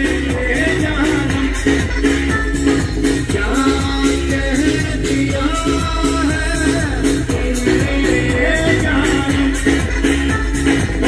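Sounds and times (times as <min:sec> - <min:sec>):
loud dance music over loudspeakers: 0:00.0 - 0:11.0.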